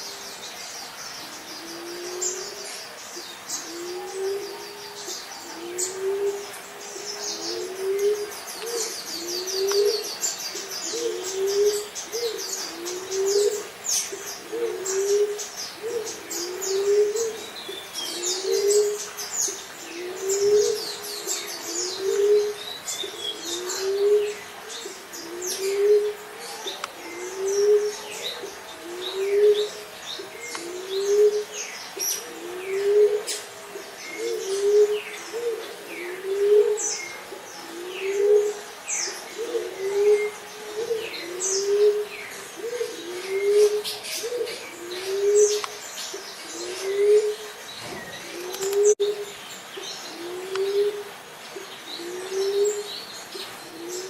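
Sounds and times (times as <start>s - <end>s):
songbirds chirping: 0.0s - 54.0s
dove cooing: 1.3s - 49.2s, 50.1s - 54.0s.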